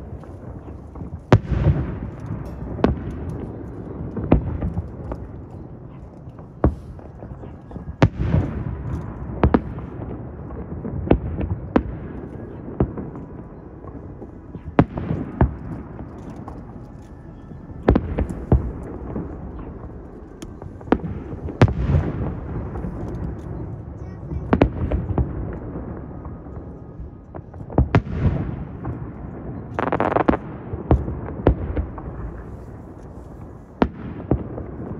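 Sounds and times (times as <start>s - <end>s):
fireworks bursting with booms: 0.0s - 16.8s, 17.6s - 34.9s.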